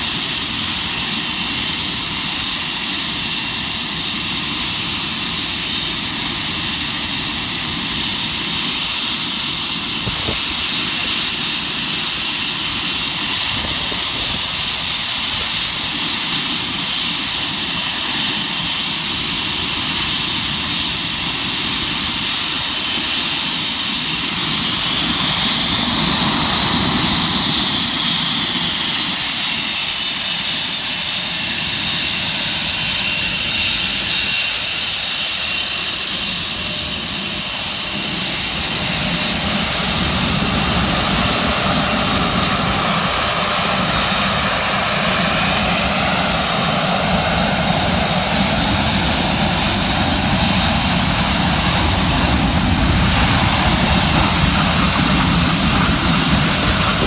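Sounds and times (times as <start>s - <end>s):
jet engines whining and rumbling: 0.0s - 57.0s.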